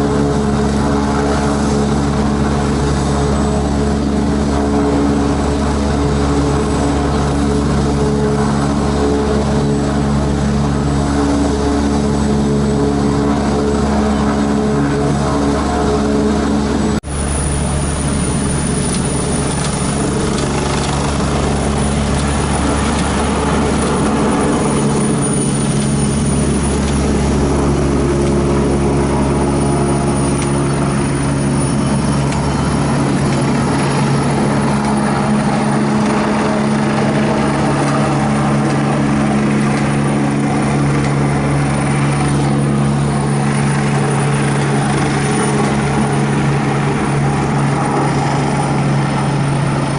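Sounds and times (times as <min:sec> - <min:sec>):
helicopter engine and rotor drone: 0:00.0 - 0:49.9
high-pitched turbine whine: 0:00.0 - 0:49.9.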